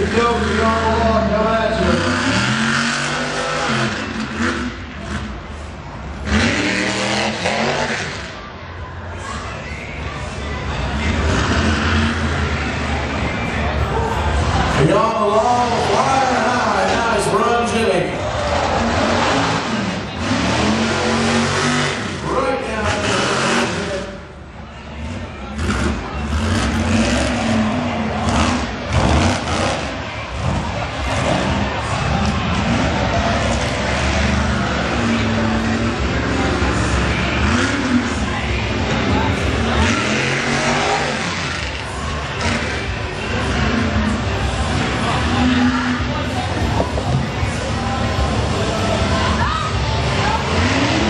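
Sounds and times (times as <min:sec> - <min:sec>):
truck engine revving hard: 0:00.0 - 0:08.8, 0:09.9 - 0:51.0.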